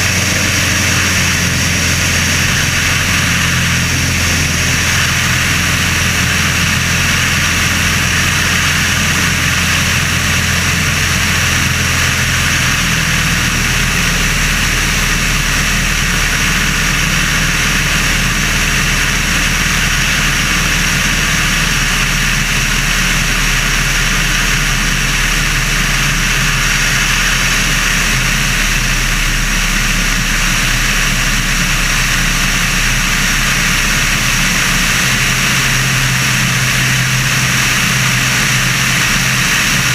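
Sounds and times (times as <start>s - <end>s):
light airplane engine and propeller: 0.0s - 39.9s.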